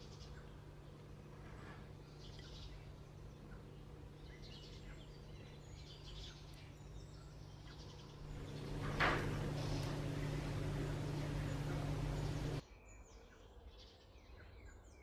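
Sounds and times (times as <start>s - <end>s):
steady low hum: 0.0s - 12.6s.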